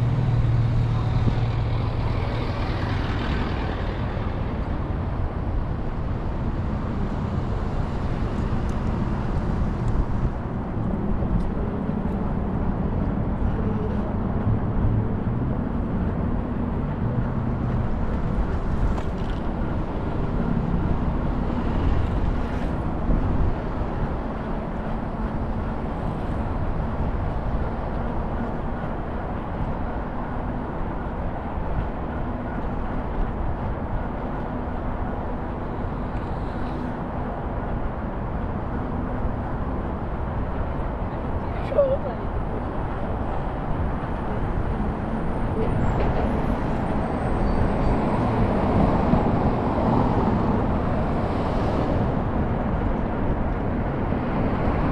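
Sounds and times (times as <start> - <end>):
city traffic noise: 0.0 - 54.9
passing vehicles humming: 0.0 - 54.9.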